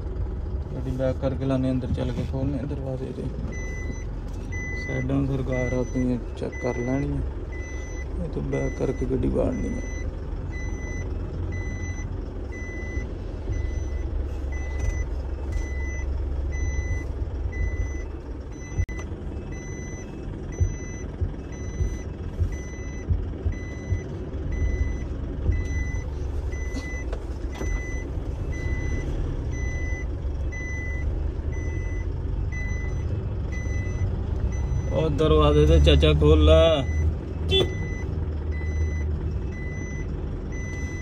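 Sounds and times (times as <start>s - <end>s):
truck engine running: 0.0s - 41.0s
truck reversing alarm beeping: 3.4s - 41.0s.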